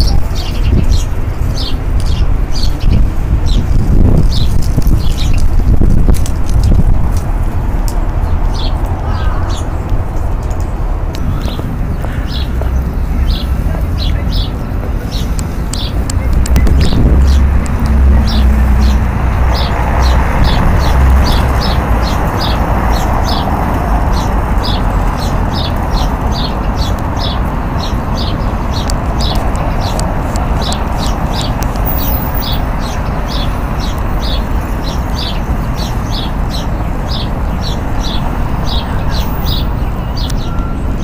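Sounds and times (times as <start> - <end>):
city noise rumble and hiss: 0.0 - 41.0.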